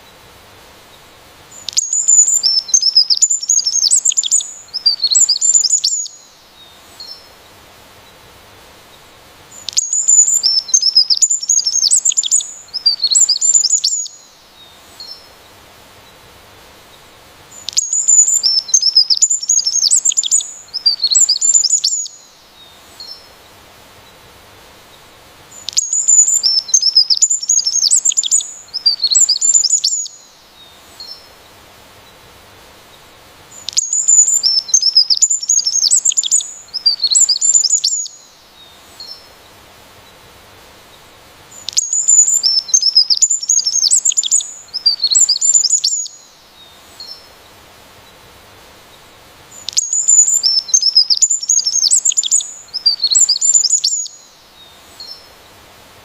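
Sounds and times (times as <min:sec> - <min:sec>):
faint steady hiss: 0:00.0 - 0:56.0
songbird twittering song: 0:00.9 - 0:08.2, 0:08.9 - 0:16.2, 0:16.9 - 0:24.2, 0:24.9 - 0:32.2, 0:32.9 - 0:40.2, 0:40.9 - 0:48.3, 0:48.9 - 0:55.6.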